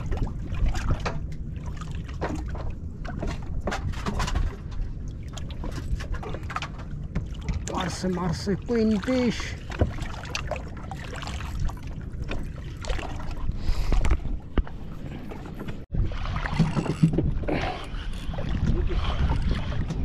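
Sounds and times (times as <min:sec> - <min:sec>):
water against boat: 0:00.0 - 0:20.0
wind rumble: 0:00.0 - 0:20.0.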